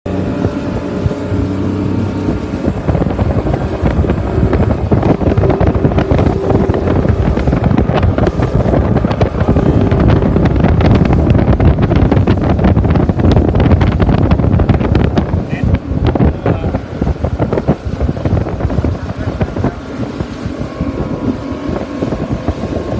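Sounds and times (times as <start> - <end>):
boat engine hum: 0.0 - 22.9
wind buffeting microphone: 0.1 - 22.9.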